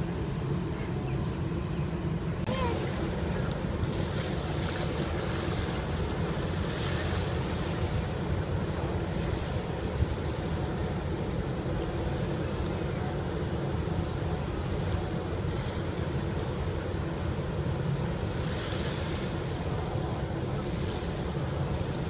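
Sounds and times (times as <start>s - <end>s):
small waves lapping at shore: 0.0s - 22.0s.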